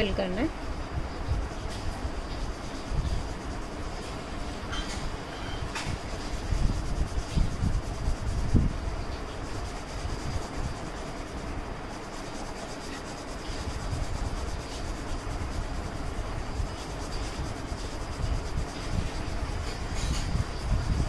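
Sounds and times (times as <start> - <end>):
pencil scratching on paper: 1.4 - 21.0.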